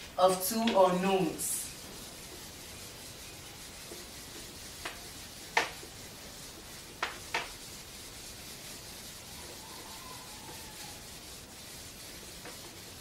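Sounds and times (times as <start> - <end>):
eraser rubbing whiteboard: 0.5 - 13.0.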